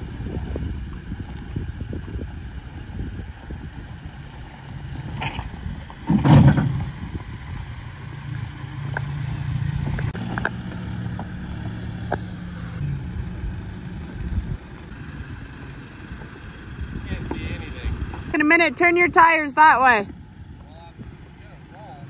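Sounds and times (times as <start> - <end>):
sharp clicks of tyres and rocks: 0.0 - 19.2, 20.0 - 22.0
pickup engine running at low revs: 0.0 - 22.0.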